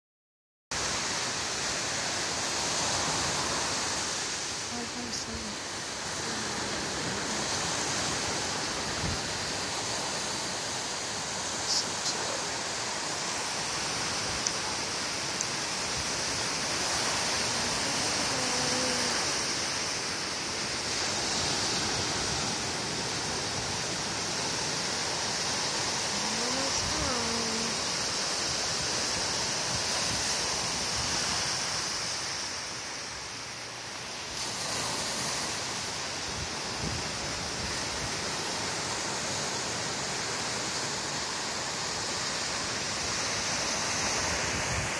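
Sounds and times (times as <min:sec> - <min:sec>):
ocean waves breaking: 0:00.8 - 0:44.9.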